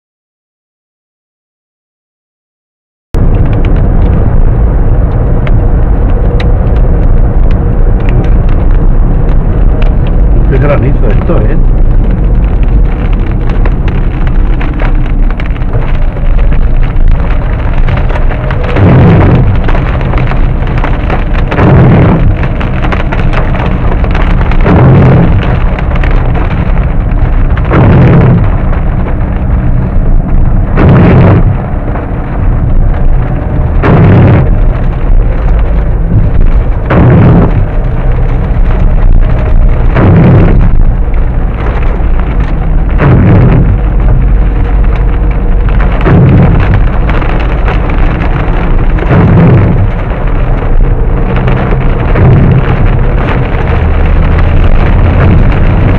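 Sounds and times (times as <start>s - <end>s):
hail drumming on car roof: 3.2s - 55.9s
windscreen wiper sweeping: 3.2s - 55.9s.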